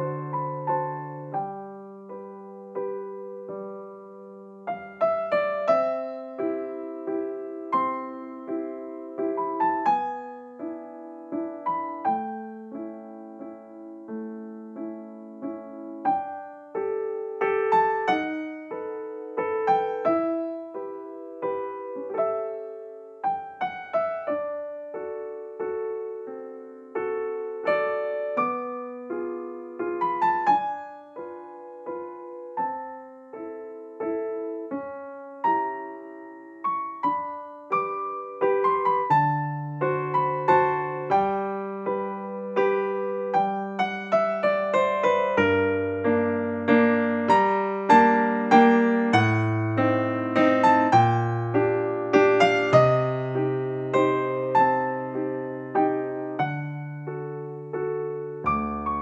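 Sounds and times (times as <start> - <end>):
gentle piano melody: 0.0 - 59.0.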